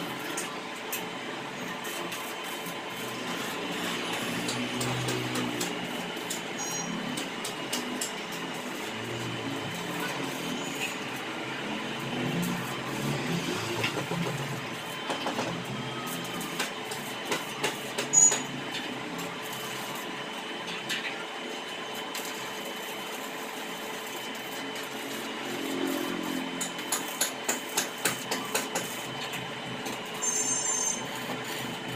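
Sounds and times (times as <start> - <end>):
welding arc crackling hiss: 0.0 - 20.6, 21.4 - 31.9.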